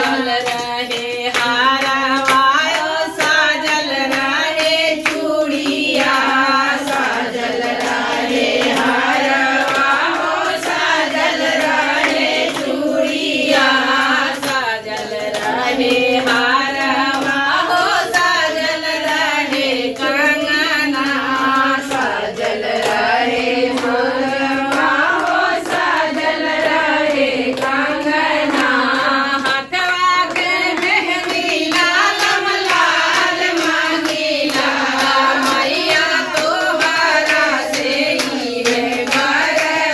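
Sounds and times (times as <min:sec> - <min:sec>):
hand claps: 0:00.0 - 0:39.9
women singing a folk song: 0:00.0 - 0:39.9.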